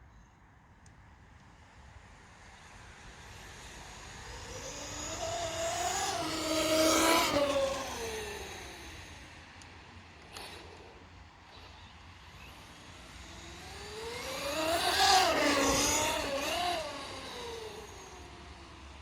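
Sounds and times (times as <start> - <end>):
rc truck motor whining: 2.6 - 19.0.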